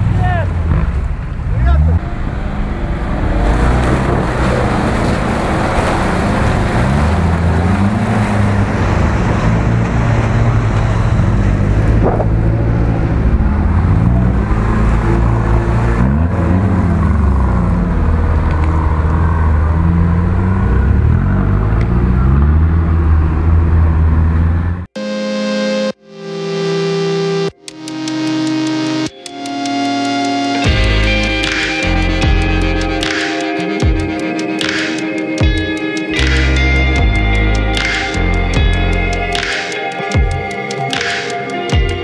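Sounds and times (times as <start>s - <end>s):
off-road engines revving: 0.0s - 24.9s, 29.7s - 42.0s.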